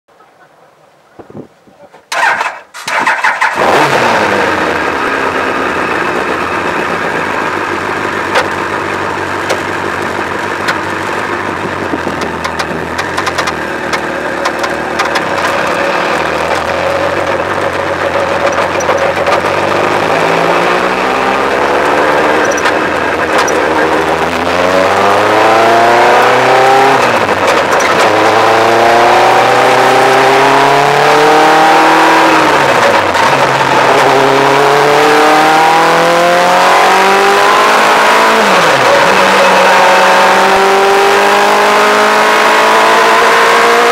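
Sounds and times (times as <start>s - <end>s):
engine revving through gears: 2.1s - 43.9s.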